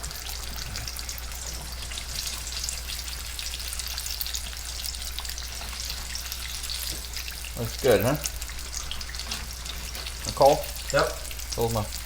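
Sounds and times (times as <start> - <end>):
fish sizzling in frying oil: 0.0 - 12.0.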